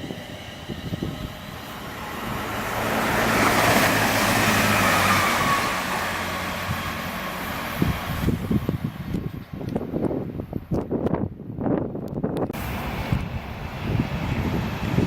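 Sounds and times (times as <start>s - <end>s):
train passing: 0.0s - 10.2s, 12.6s - 15.0s
wind buffeting microphone: 0.0s - 15.0s.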